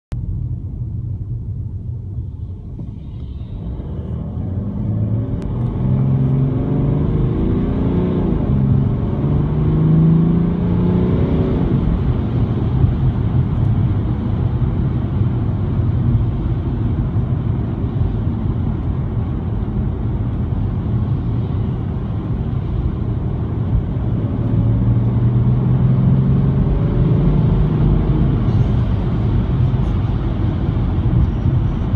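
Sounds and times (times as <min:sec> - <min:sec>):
car engine accelerating: 0:02.4 - 0:31.9.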